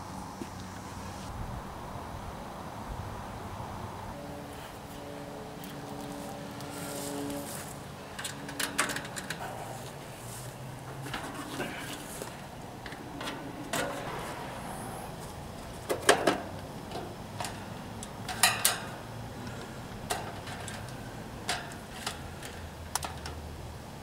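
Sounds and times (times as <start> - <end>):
metal fan grille clanking: 4.2 - 24.0.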